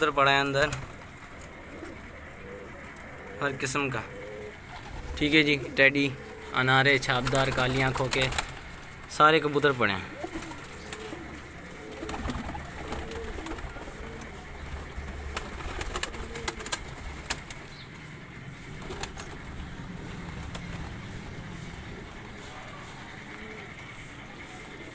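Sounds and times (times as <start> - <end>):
pigeons cooing: 0.0 - 9.0, 9.7 - 24.9.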